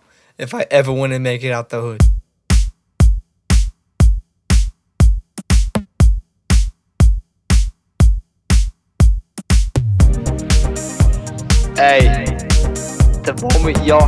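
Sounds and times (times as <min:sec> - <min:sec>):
booming drum machine hits: 0:02.0 - 0:14.0.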